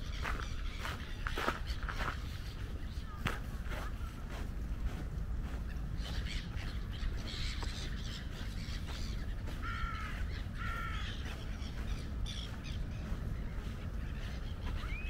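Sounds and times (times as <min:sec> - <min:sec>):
birds calling: 0:00.0 - 0:15.0
harsh bird calls: 0:00.0 - 0:15.0
steady low rumble: 0:00.0 - 0:15.0.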